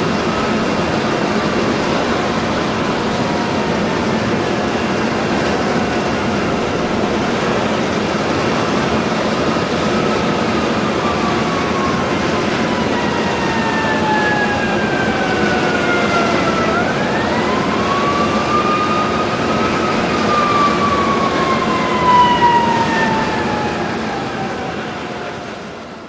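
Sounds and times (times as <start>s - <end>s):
drawn-out whine: 0.0s - 26.0s
train rolling along track: 0.0s - 26.0s.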